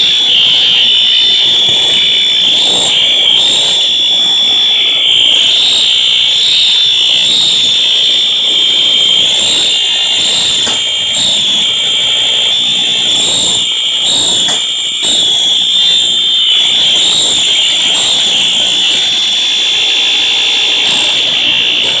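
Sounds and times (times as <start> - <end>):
fire alarm continuous tone: 0.0 - 22.0.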